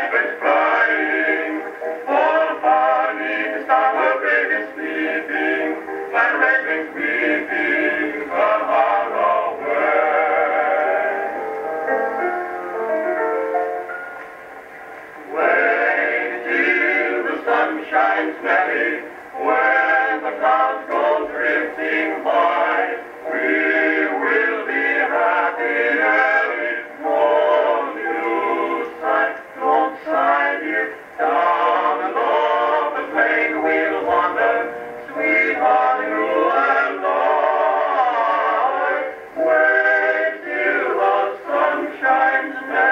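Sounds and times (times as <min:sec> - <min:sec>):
male vocal quartet singing: 0:00.0 - 0:11.6, 0:15.2 - 0:42.9.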